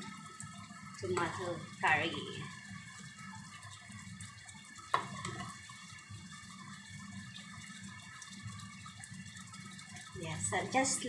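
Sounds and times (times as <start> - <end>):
curry bubbling in a pan: 0.0 - 11.0.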